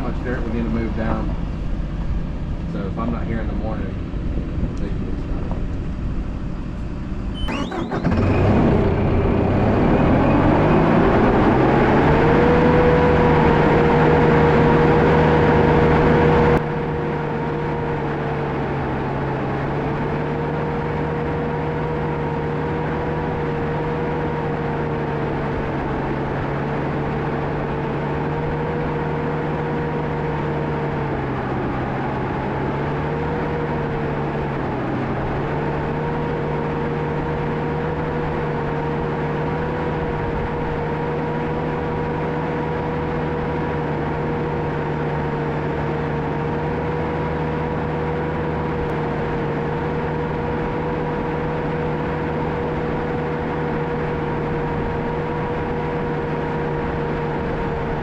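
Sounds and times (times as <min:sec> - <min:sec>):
bulldozer diesel engine revving: 0:07.0 - 0:58.0.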